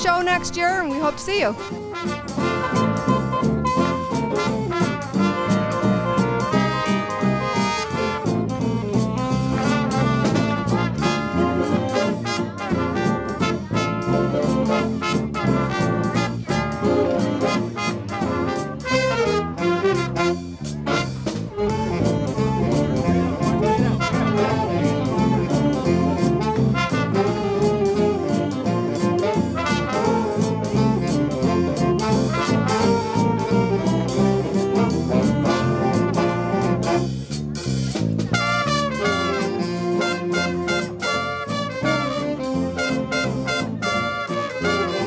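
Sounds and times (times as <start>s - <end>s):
steady drum beat: 0.0s - 45.0s
trumpets and trombones: 0.0s - 45.0s.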